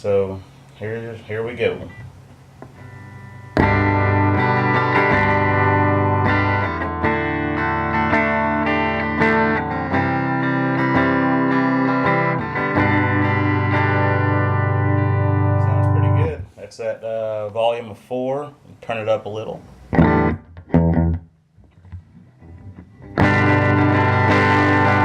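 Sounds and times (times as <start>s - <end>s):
clean electric guitar: 1.6s - 16.5s, 19.7s - 25.0s.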